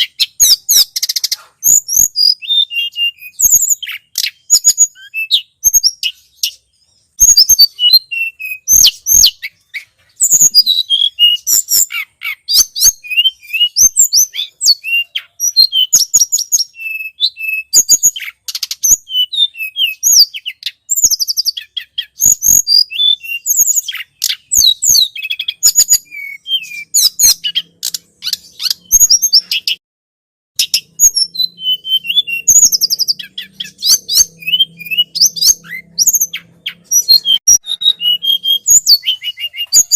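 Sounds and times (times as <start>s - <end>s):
bird rapid high chirps and trills: 0.0s - 29.8s, 30.6s - 39.9s.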